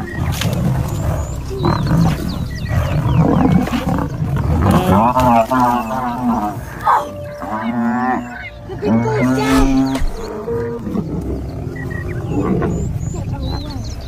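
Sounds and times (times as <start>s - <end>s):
buffalo bellowing: 0.0s - 13.6s
lions growling and snarling: 0.0s - 14.0s.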